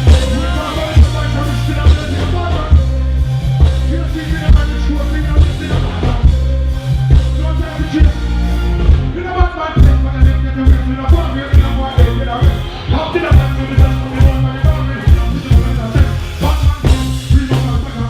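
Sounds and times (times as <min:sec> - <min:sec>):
person singing: 0:00.0 - 0:18.0
reggae music with heavy bass: 0:00.0 - 0:18.0.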